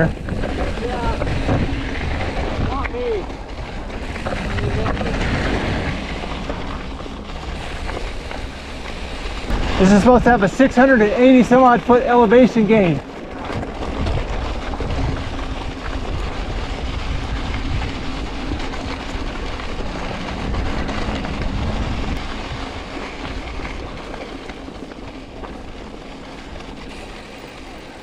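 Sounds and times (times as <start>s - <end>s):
low rumble: 0.0s - 27.9s
bike rattling: 0.0s - 28.0s
tyres crunching on loose stones: 0.0s - 28.0s.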